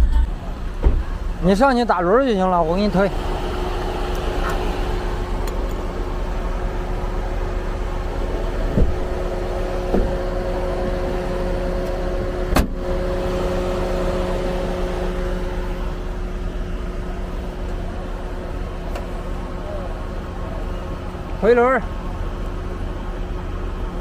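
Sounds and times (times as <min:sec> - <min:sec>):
droning hum: 0:00.0 - 0:24.0
motor vehicle rumble: 0:00.0 - 0:24.0.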